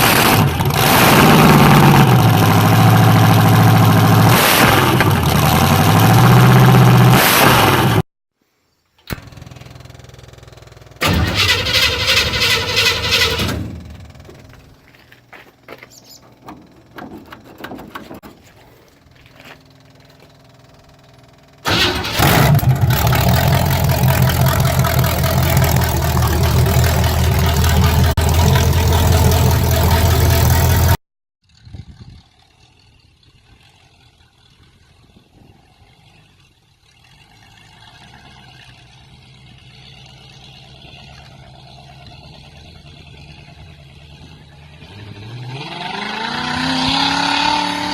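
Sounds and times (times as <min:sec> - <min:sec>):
loud car engine running: 0:00.0 - 0:08.0, 0:09.3 - 0:47.9.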